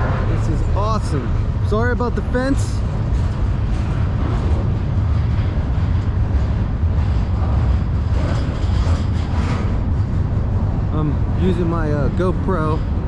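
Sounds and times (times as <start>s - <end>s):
freight train rumbling over bridge: 0.0s - 13.0s.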